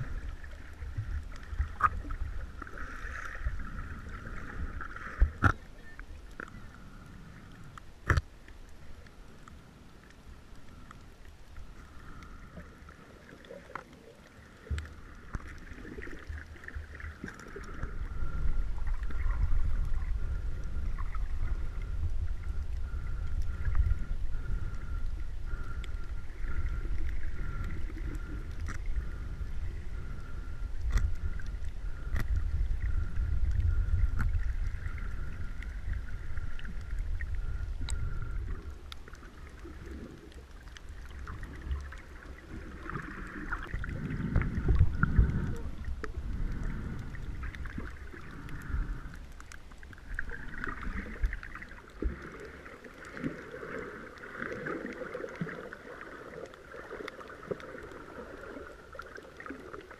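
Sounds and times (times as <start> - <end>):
faint steady whine: 0.0 - 59.9
underwater rumble of water: 0.0 - 59.9.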